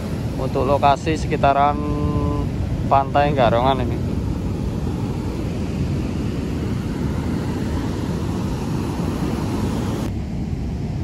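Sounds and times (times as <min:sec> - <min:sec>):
heavy surf breaking on beach: 0:00.0 - 0:11.0.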